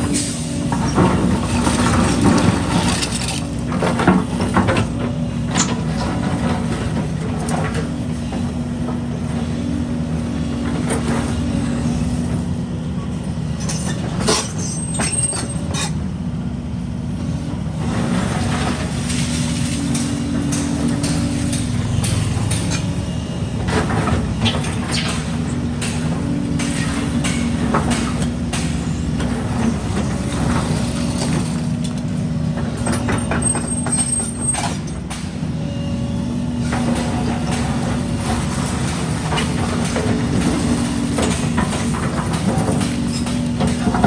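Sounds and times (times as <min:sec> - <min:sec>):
heavy machinery diesel engine: 0:00.0 - 0:44.0.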